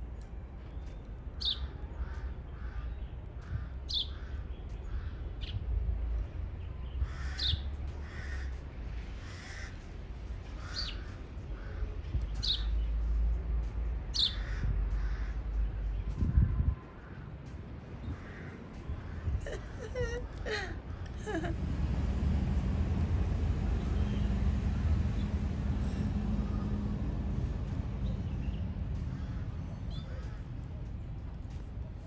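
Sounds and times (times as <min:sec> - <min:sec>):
birds chirping: 0:00.2 - 0:32.0.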